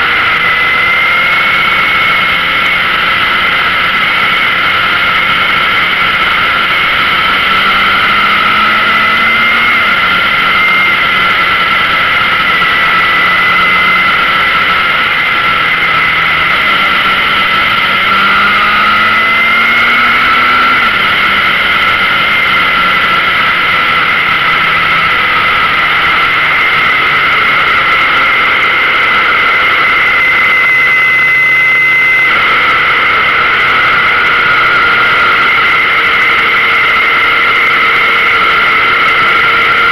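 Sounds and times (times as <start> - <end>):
motorcycle engine: 0.0 - 39.9
wind and road rush: 0.0 - 39.9.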